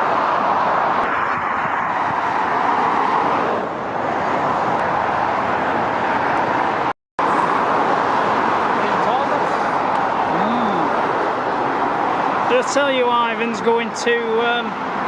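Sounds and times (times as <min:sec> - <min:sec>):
motorway traffic rushing: 0:00.0 - 0:15.0.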